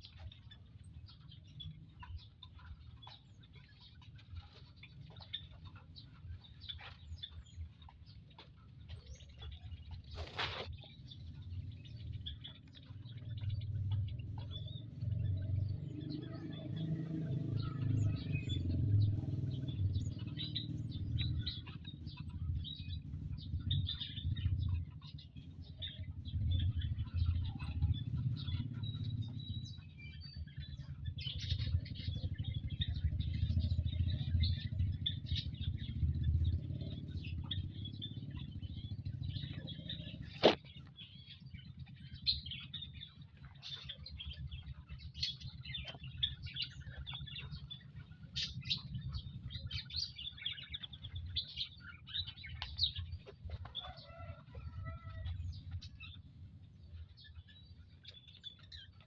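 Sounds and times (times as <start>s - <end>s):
uneven low rumble: 0.0s - 59.0s.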